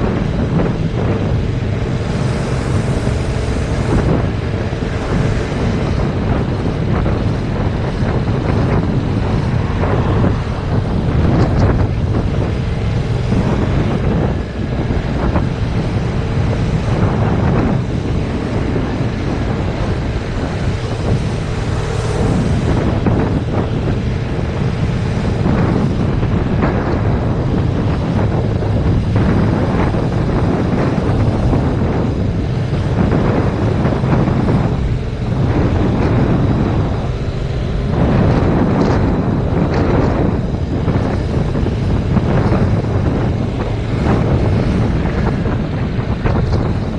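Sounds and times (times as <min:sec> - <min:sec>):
motorcycle engine running: 0:00.0 - 0:46.9
wind buffeting on microphone: 0:00.0 - 0:46.9.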